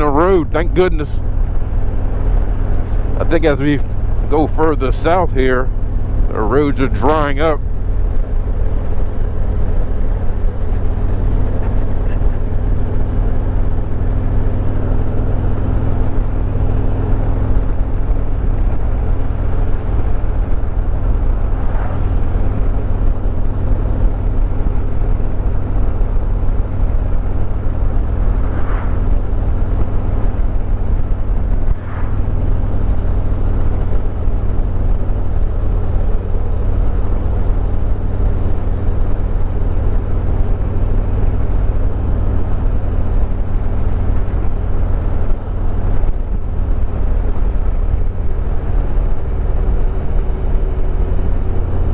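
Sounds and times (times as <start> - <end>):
motorcycle engine cruising: 0.0 - 51.9
road and wind noise: 0.0 - 51.9.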